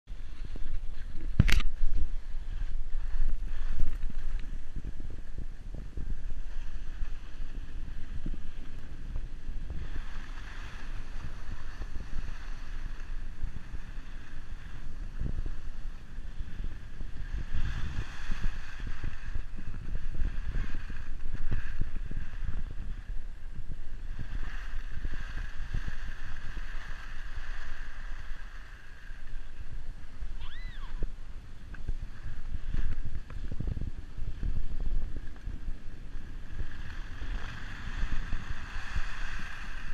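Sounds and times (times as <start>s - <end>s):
wind buffeting microphone: 0.1s - 39.9s
skis scraping on snow: 0.2s - 30.4s, 31.6s - 39.9s.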